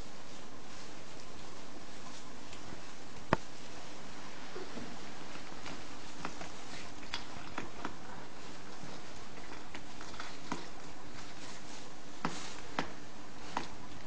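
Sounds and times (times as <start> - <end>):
soft clicks and rustles in straw: 0.0 - 14.0
steady background hiss: 0.0 - 14.0.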